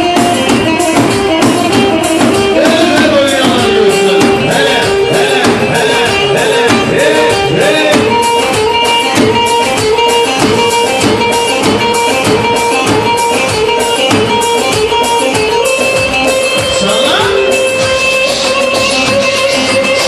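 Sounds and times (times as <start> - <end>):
drum beating fast rhythm: 0.0 - 20.0
sliding melody line: 0.0 - 20.0.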